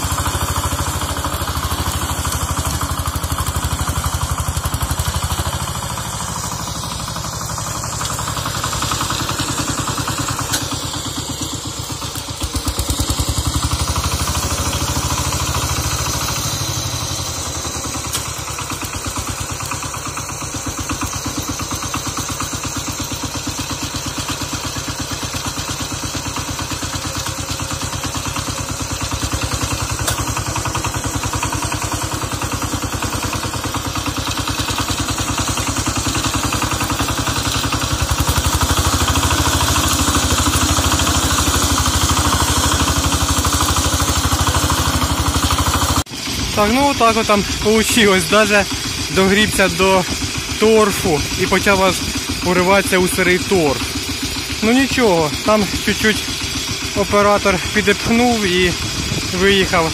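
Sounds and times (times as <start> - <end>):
diesel tractor engine knocking: 0.0 - 59.9
wheels digging through snow: 0.0 - 59.9.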